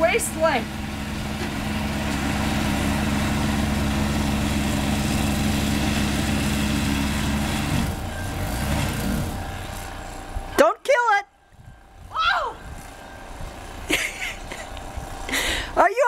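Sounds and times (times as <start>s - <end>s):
snowblower engine running: 0.0s - 10.7s, 11.4s - 16.0s.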